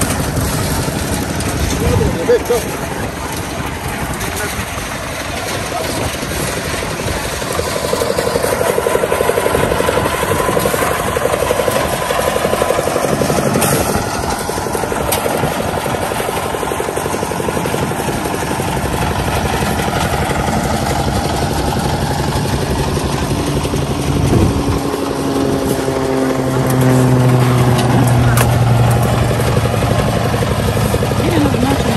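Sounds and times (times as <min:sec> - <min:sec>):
loud engine running: 0:00.0 - 0:31.9.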